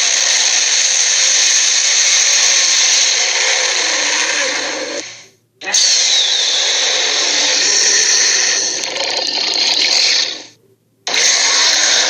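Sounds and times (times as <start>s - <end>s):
harsh rasping dinosaur screech: 0.1s - 12.0s.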